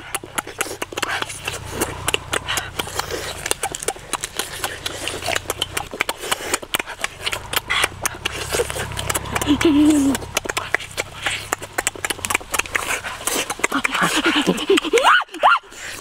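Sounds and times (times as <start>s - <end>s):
low steady hum: 0.0s - 15.1s
chewing and tearing chicken: 0.0s - 16.0s.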